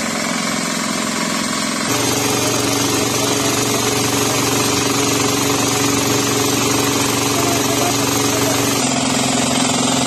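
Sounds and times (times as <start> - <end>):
small engine running with pulse: 0.0 - 10.0.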